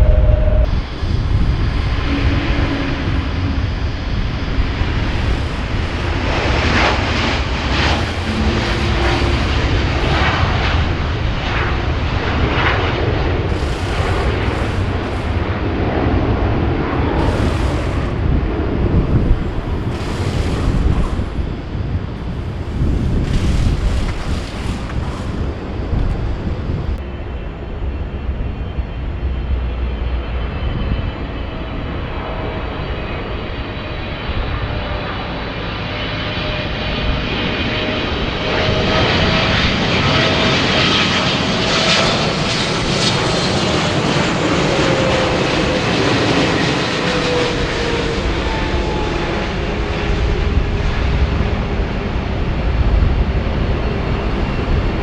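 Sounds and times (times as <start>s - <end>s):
jet engine whine falling in pitch: 0.0s - 55.0s
jet engines roaring: 0.0s - 55.0s.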